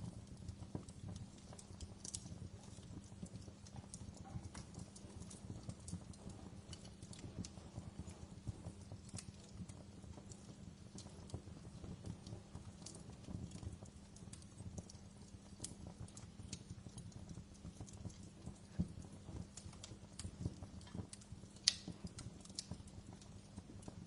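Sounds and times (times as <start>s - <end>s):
low steady rumble: 0.0s - 24.0s
wood fire crackling and popping: 0.0s - 24.0s.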